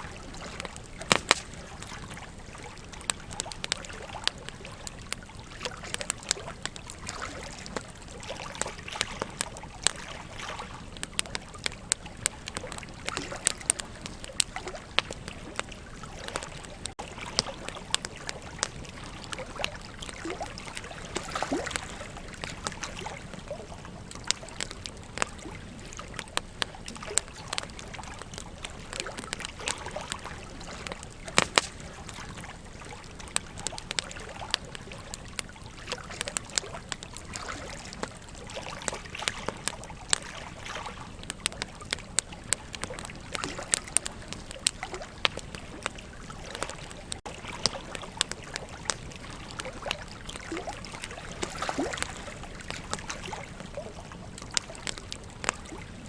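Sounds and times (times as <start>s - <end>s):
river water flowing: 0.0s - 41.1s, 44.7s - 55.9s
wood fire crackling and popping: 0.0s - 56.0s.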